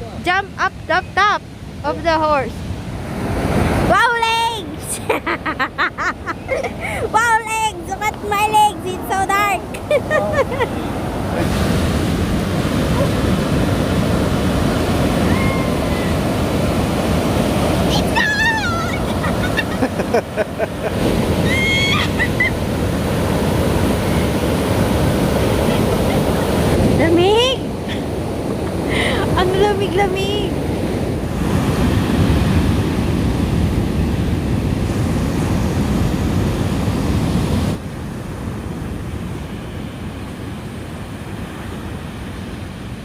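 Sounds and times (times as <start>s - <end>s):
surf breaking on beach: 1.7s - 43.0s
wind buffeting microphone: 6.2s - 43.0s.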